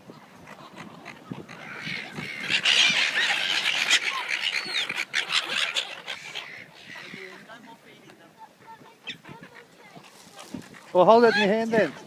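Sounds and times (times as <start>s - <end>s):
seagulls calling: 0.1s - 7.8s, 8.7s - 12.0s.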